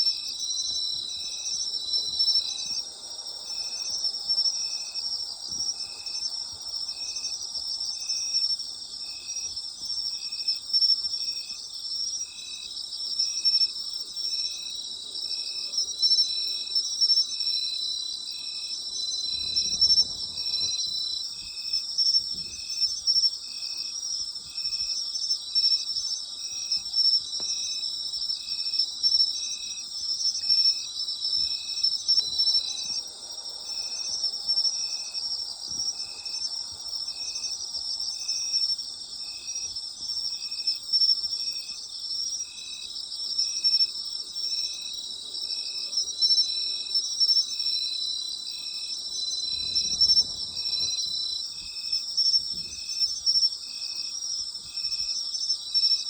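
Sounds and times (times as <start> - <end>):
insect chirping rhythmically: 0.0 - 56.0
insects trilling: 0.0 - 56.0.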